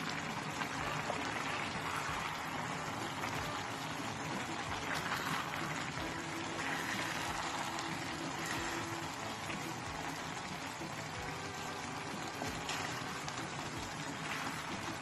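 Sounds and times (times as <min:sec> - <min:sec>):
wooden spoon stirring: 0:00.0 - 0:10.8, 0:11.4 - 0:15.0
pot boiling and bubbling: 0:00.0 - 0:15.0.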